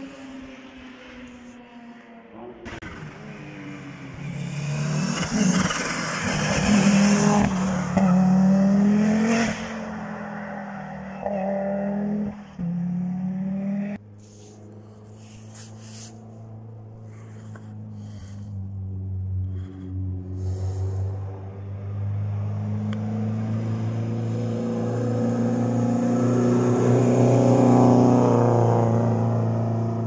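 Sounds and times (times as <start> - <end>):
rally car engine at full throttle: 0.0 - 30.0.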